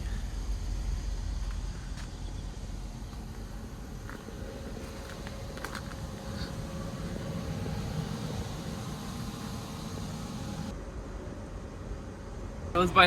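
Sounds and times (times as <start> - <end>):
low vehicle rumble: 0.0 - 10.8.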